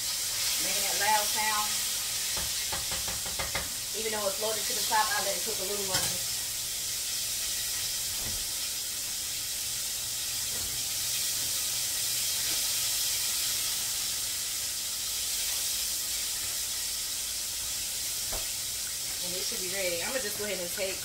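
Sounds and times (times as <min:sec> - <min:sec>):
fish deep-frying in oil: 0:00.0 - 0:21.0.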